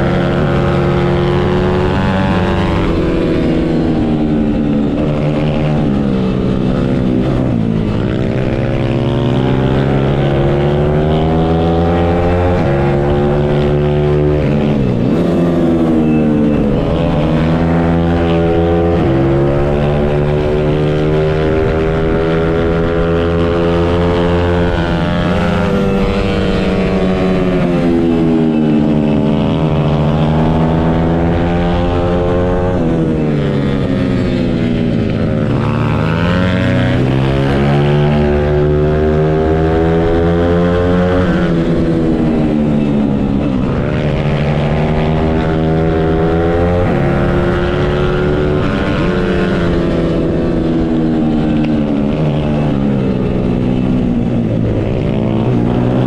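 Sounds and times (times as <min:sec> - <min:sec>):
motorcycle engine at race speed: 0:00.0 - 0:56.0.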